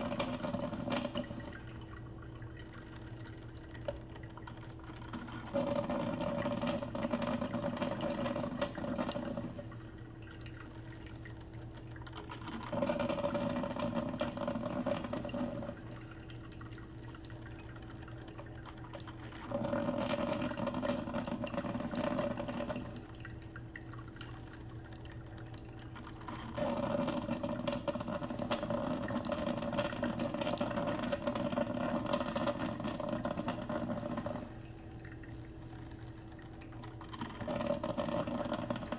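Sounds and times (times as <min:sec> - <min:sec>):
water bubbling in coffee maker: 0:00.0 - 0:38.9.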